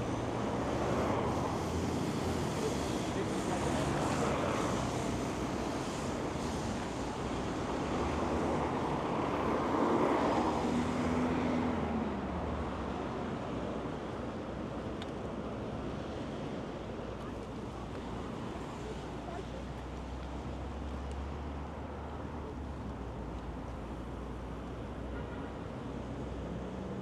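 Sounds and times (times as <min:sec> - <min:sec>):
vehicles passing with tyre hiss: 0:00.0 - 0:27.0.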